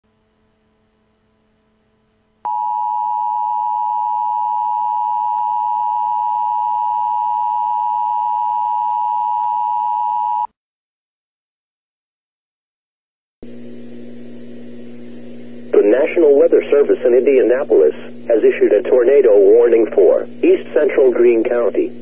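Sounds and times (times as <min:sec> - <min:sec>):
faint hum: 0:00.1 - 0:10.5, 0:13.4 - 0:22.0.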